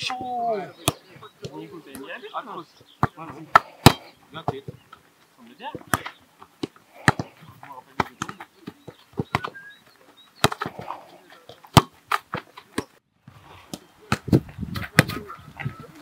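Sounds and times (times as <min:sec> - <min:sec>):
boots kicking football: 0:00.0 - 0:02.2, 0:02.8 - 0:04.9, 0:05.7 - 0:16.0.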